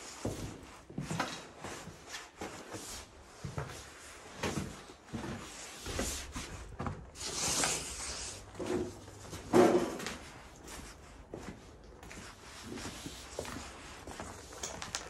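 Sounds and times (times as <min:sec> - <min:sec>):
footsteps: 0:00.2 - 0:15.0.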